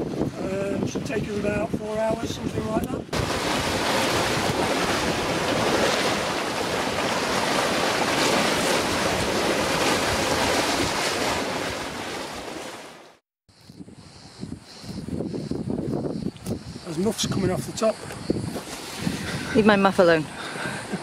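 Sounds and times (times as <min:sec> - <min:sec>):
wind buffeting microphone: 0:00.0 - 0:12.6, 0:13.5 - 0:21.0
water rushing along boat hull: 0:00.0 - 0:13.2, 0:16.4 - 0:21.0.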